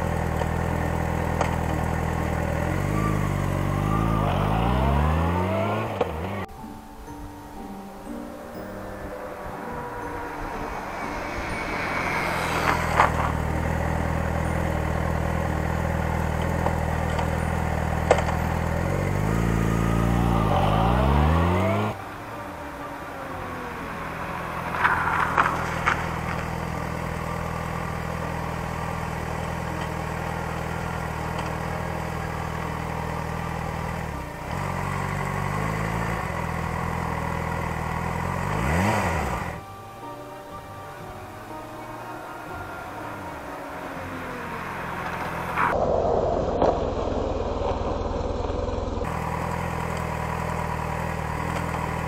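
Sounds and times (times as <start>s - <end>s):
motorcycle engine running: 0.0s - 6.5s, 10.8s - 22.0s, 23.2s - 39.6s, 43.2s - 52.0s.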